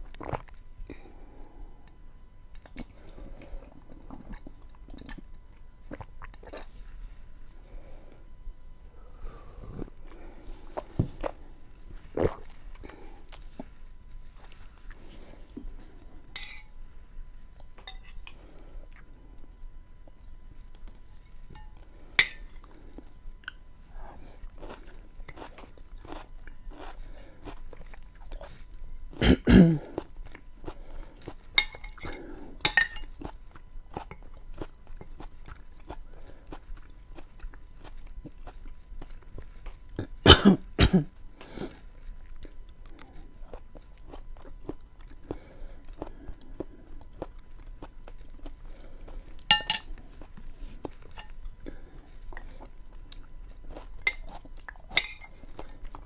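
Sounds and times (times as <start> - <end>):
person chewing food: 0.0 - 1.9, 2.5 - 8.2, 9.2 - 16.5, 17.5 - 29.2, 29.8 - 40.2, 41.2 - 56.0.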